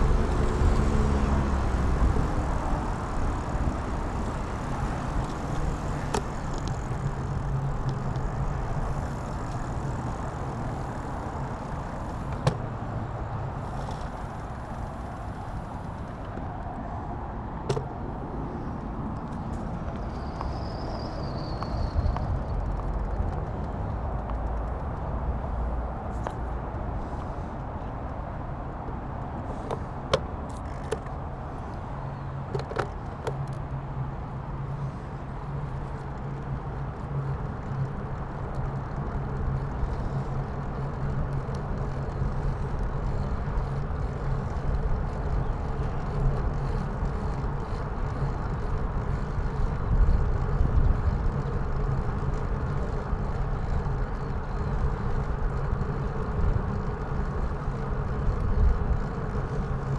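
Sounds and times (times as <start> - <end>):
road and wind noise: 0.0 - 59.9
vehicle engine humming: 0.0 - 59.9.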